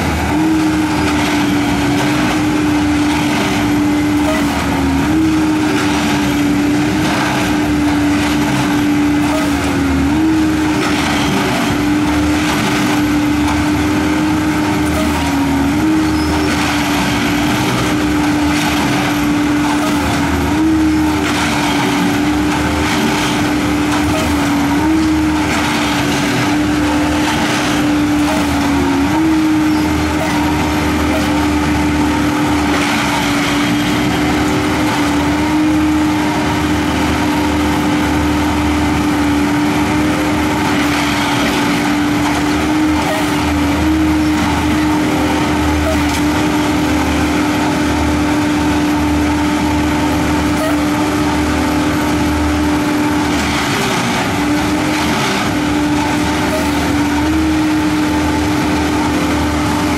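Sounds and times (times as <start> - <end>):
tamping machine engine whine: 0.0 - 59.9.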